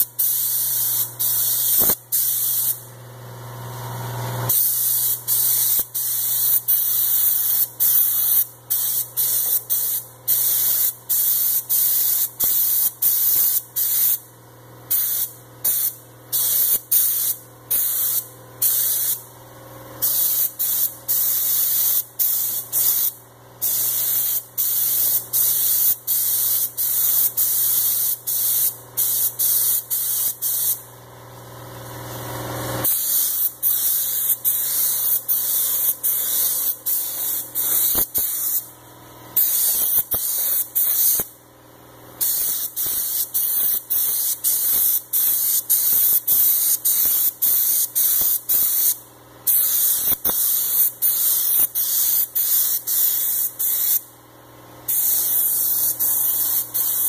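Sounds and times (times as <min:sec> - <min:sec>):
spray gun hissing: 0:00.1 - 0:02.8, 0:04.5 - 0:14.2, 0:14.9 - 0:19.2, 0:20.0 - 0:30.8, 0:32.8 - 0:38.7, 0:39.4 - 0:41.3, 0:42.2 - 0:54.0, 0:54.9 - 0:57.0.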